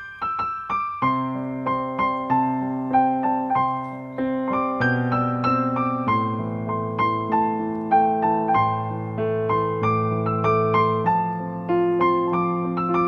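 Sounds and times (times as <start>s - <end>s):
soft slow piano music: 0.0s - 13.0s.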